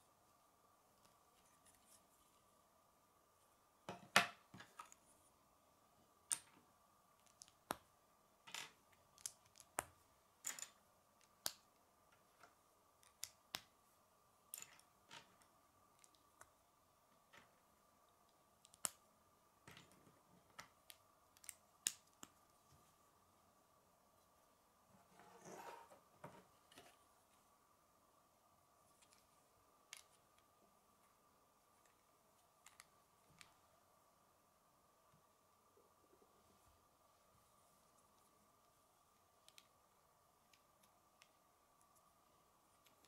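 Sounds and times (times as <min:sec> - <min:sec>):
faint high hum: 0:00.0 - 0:43.0.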